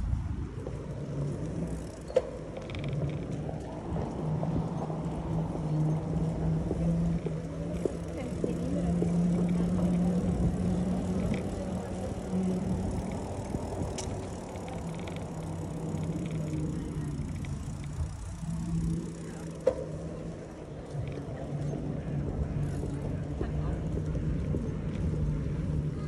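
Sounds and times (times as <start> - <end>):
bicycle tyre and road noise: 0.0 - 26.0
steady low hum: 0.0 - 26.0.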